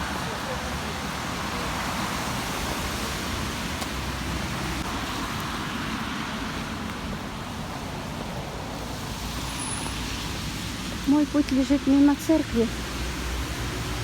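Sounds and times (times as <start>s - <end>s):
rain: 0.0s - 14.0s
road traffic: 0.0s - 14.0s.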